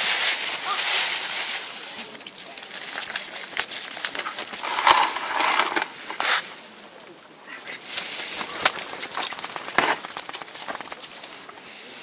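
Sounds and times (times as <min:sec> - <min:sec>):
plastic bag rustling: 0:00.0 - 0:06.7, 0:07.8 - 0:11.6.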